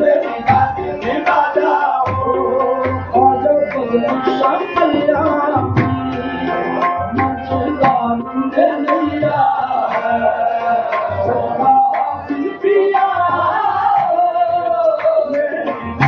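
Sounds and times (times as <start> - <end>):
sustained harmonium notes: 0.0 - 16.0
tabla drumming: 0.0 - 16.0.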